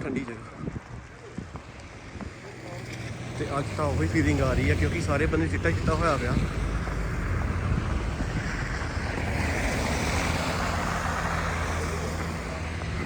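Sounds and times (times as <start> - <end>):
vehicle tyre noise passing: 0.0 - 13.0
low engine rumble: 1.2 - 13.0.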